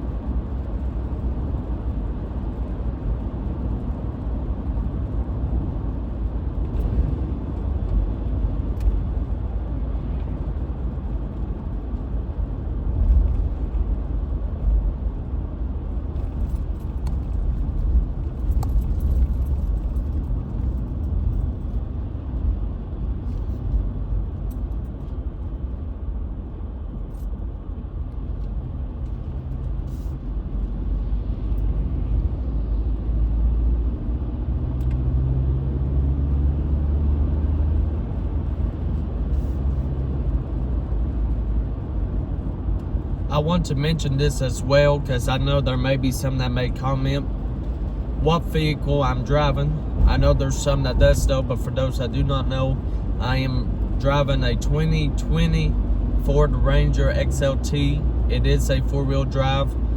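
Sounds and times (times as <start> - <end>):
engine hum: 0.0 - 59.9
road and tyre rumble: 0.0 - 59.9.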